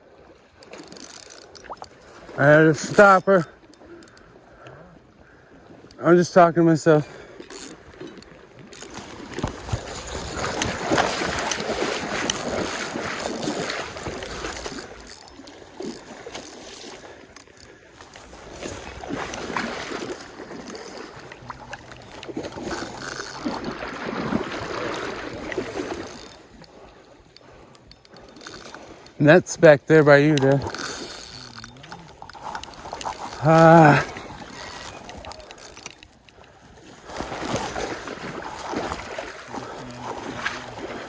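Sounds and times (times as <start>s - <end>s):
stream water splashing: 0.0s - 41.0s.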